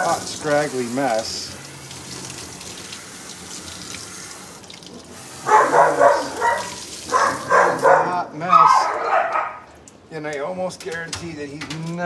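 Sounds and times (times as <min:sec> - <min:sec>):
water spraying onto dog: 0:00.0 - 0:09.9.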